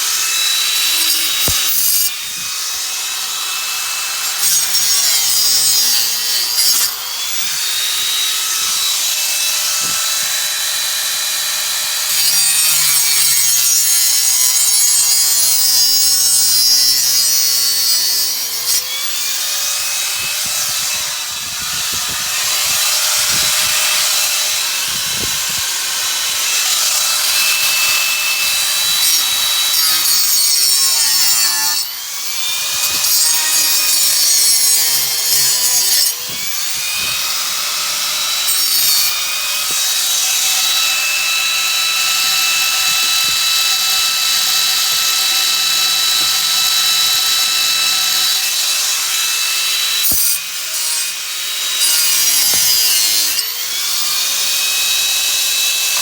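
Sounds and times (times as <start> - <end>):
power saw cutting pipe: 0.0 - 56.0.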